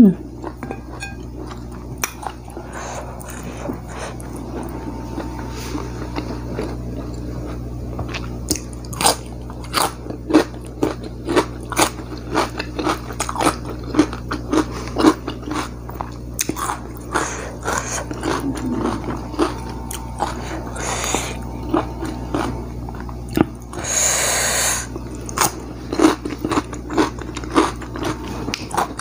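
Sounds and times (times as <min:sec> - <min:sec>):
person chewing with crunches: 0:00.0 - 0:29.0.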